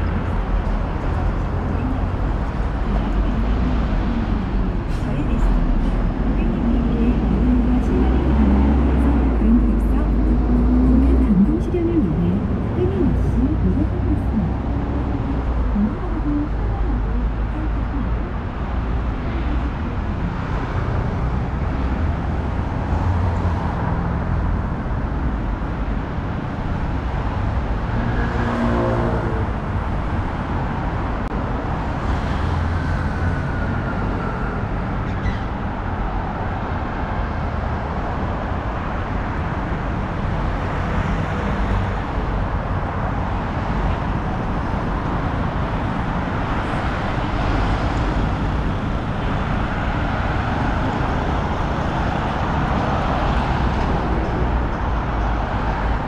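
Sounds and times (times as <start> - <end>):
cars and buses passing: 0.0 - 56.0.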